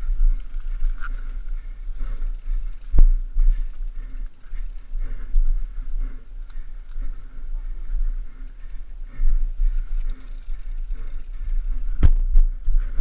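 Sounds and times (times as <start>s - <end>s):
bike rattling over rough trail: 0.0s - 13.0s
wind buffeting microphone: 0.0s - 13.0s.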